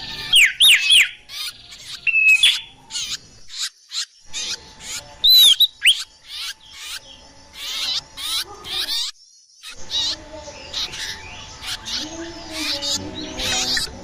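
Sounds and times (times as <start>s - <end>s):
songbird chirps and whistles: 0.0s - 14.0s.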